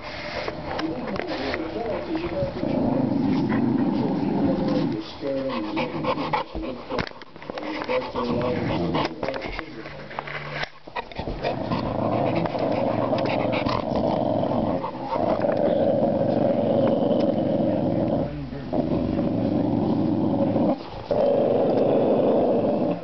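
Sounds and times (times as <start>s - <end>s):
dog growling: 1.2s - 9.6s, 10.4s - 23.0s.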